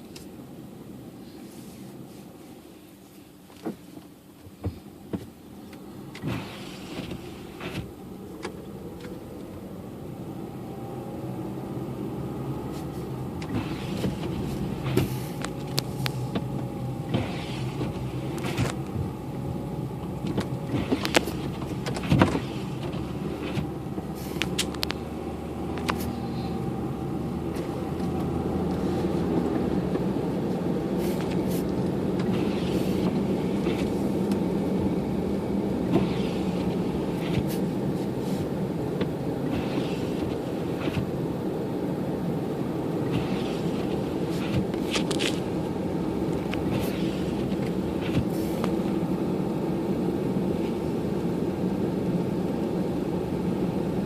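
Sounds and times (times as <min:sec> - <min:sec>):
car engine: 0:00.0 - 0:54.0
tyres on snowy road: 0:00.0 - 0:54.0.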